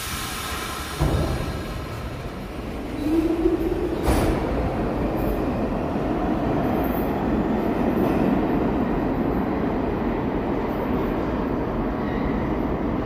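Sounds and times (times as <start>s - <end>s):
subway train motors whining: 0.0s - 13.0s
train rumble: 0.0s - 13.0s.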